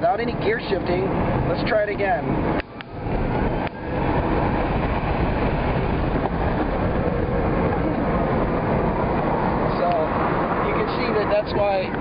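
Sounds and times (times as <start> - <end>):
wind rushing: 0.4 - 12.0.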